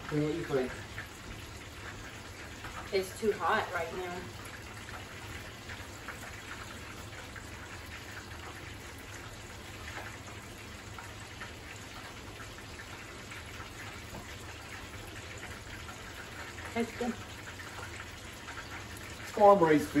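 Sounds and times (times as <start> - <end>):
hot oil sizzling and crackling: 0.0 - 20.0.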